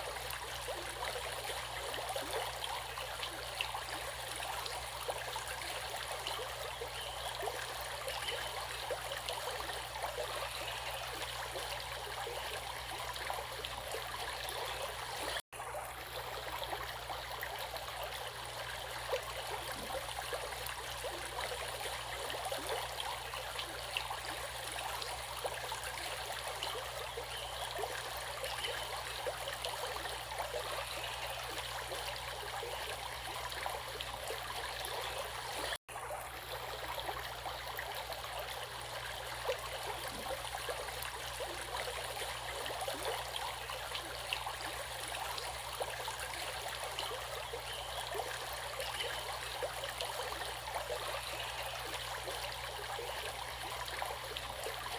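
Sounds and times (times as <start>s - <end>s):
flowing water rushing: 0.0s - 54.9s.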